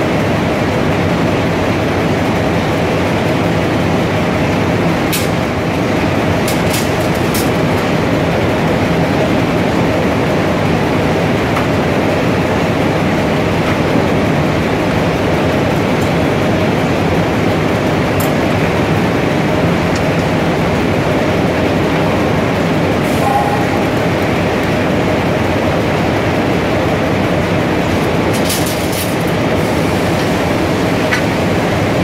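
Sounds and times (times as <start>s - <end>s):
textile machinery din: 5.1s - 32.0s.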